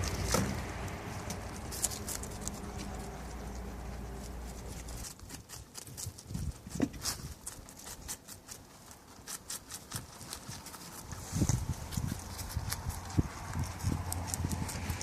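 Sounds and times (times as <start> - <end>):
rabbits chewing cabbage: 0.0 - 15.0.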